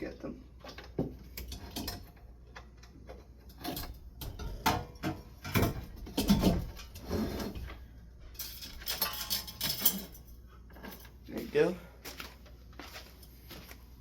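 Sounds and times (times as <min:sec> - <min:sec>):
fan parts knocking and scraping: 0:00.0 - 0:11.8.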